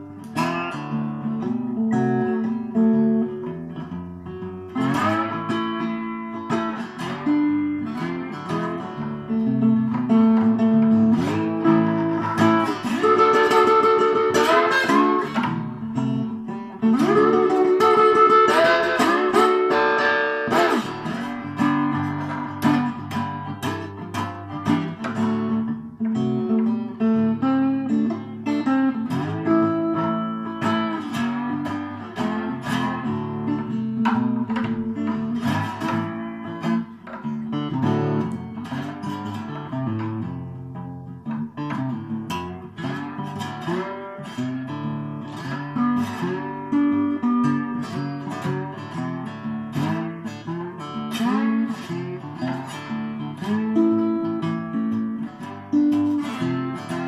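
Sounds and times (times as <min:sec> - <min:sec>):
resonator guitar played with slide: 0:00.0 - 0:57.0.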